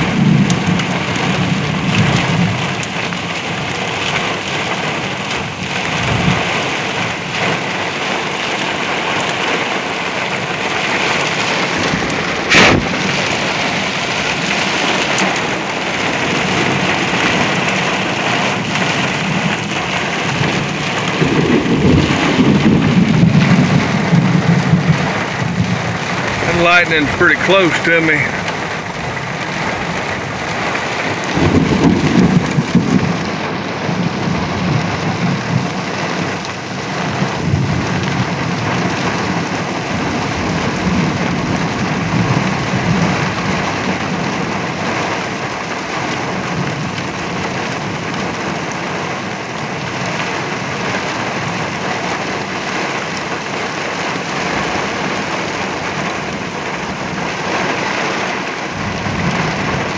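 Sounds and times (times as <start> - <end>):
heavy rain pouring: 0.0 - 59.9
thunder rumbling: 0.0 - 59.9.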